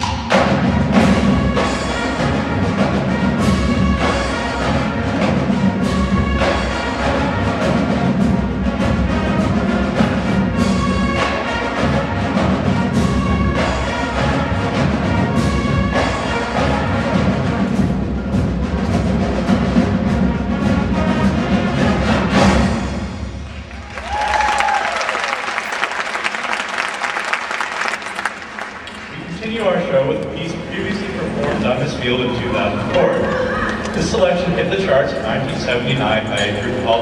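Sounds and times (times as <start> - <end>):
marching band playing: 0.0 - 37.0.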